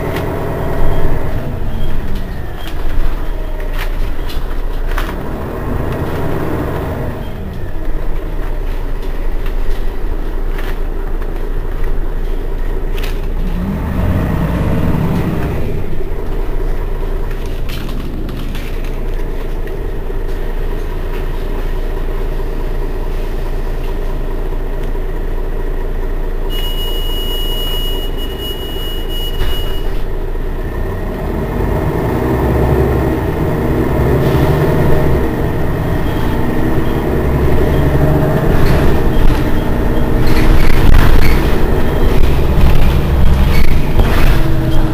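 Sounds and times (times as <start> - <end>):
bus diesel engine idling: 0.0 - 44.9.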